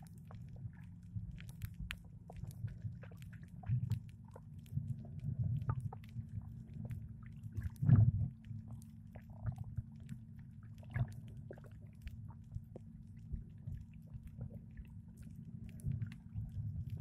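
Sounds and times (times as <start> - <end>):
underwater clicks and crackles: 0.0 - 17.0
underwater low rumble: 0.0 - 17.0.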